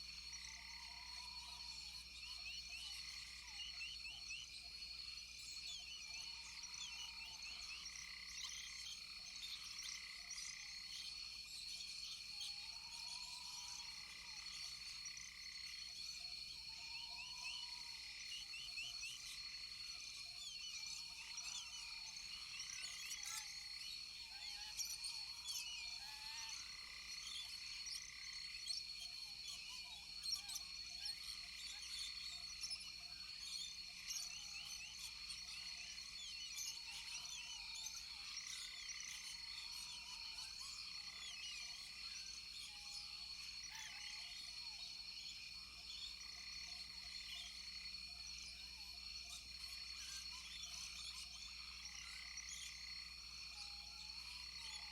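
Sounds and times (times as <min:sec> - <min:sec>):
frogs chirping and croaking: 0:00.0 - 0:54.9.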